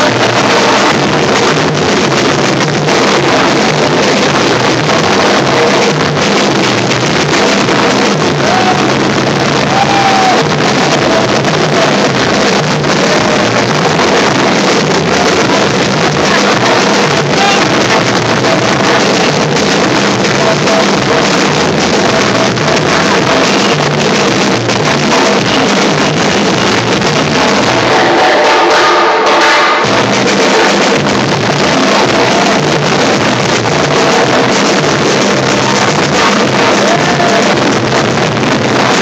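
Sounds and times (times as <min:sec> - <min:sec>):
deep bass drums pounding: 0:00.0 - 0:39.0
marching drum band: 0:00.0 - 0:39.0.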